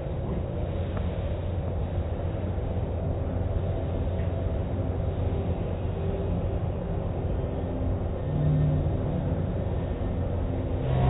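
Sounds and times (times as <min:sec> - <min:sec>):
machinery low rumble: 0:00.0 - 0:11.0.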